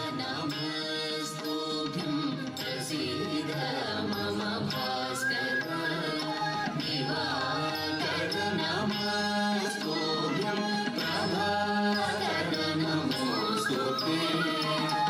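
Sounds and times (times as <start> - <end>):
percussion strokes: 0.0 - 15.0.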